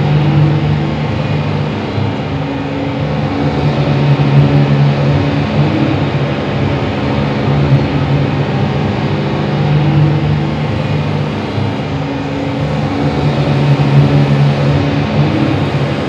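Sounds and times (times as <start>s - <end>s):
low electronic drone: 0.0s - 16.0s.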